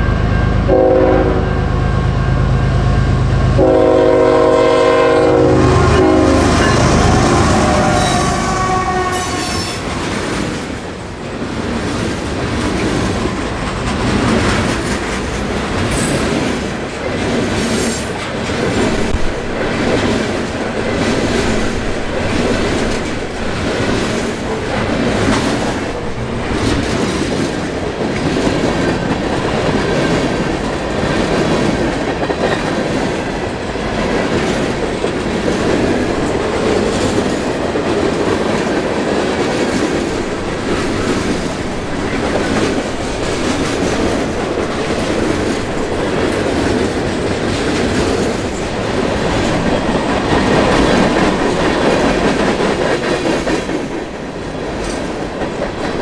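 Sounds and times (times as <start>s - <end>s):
train wheels rumbling on rails: 0.0s - 56.0s
wheels clickety-clack: 9.9s - 56.0s.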